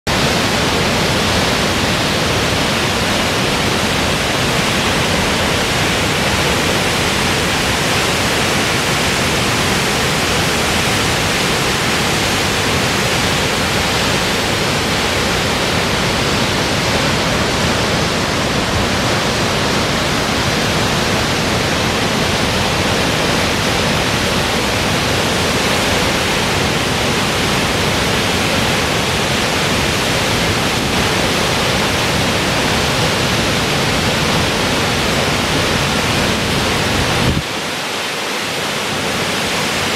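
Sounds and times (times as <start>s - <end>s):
waterfall crashing into pool: 0.1s - 39.9s.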